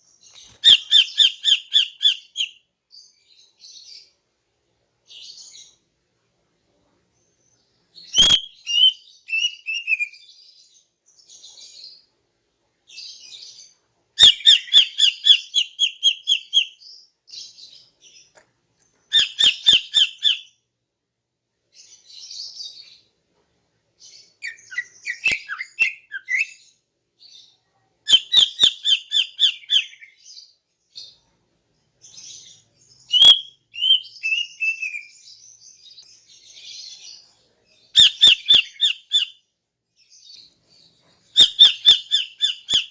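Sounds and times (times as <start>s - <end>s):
soft bird chatter: 0.0s - 20.8s, 21.6s - 42.9s.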